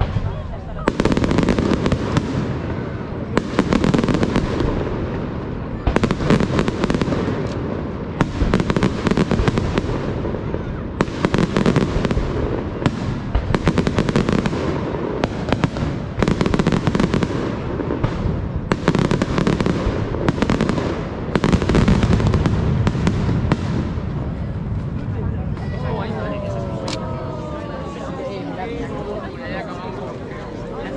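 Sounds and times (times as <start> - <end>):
fireworks cracking: 0.0 - 28.0.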